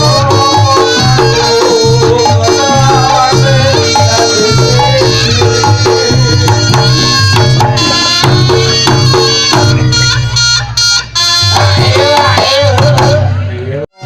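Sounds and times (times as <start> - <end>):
traditional drums beaten quickly: 0.0 - 13.5
melodic percussion tones: 0.0 - 14.0.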